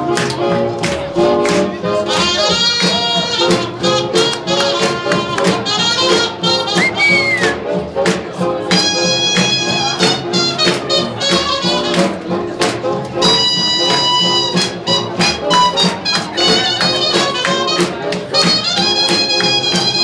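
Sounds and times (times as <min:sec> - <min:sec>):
swing jazz with horns: 0:00.0 - 0:20.0.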